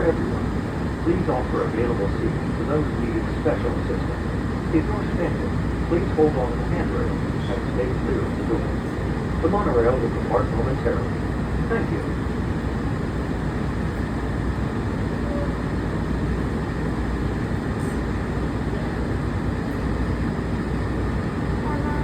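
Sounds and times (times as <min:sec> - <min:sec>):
monorail car rumble and hum: 0:00.0 - 0:22.0.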